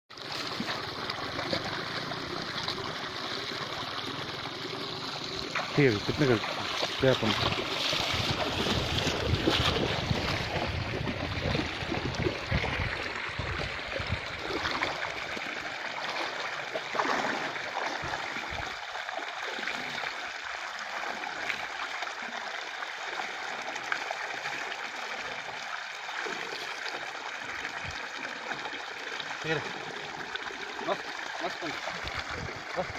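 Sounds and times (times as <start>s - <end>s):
water gushing and splashing: 0.1s - 32.9s.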